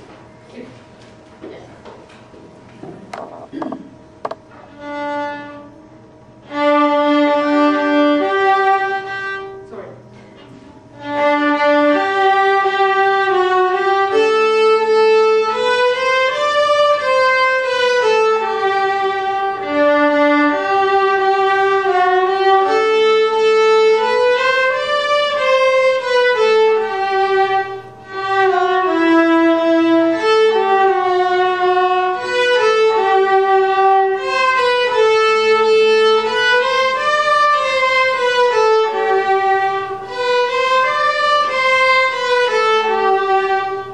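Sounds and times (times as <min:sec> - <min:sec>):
viola duet: 0:02.8 - 0:43.9.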